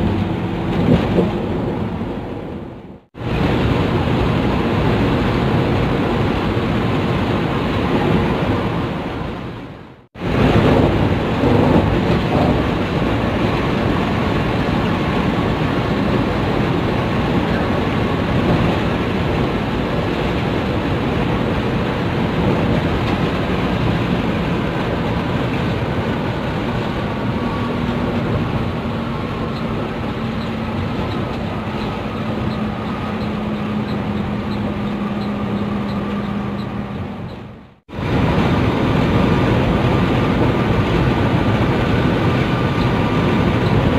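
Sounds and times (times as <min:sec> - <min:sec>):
coach engine and tyre noise: 0:00.0 - 0:43.9.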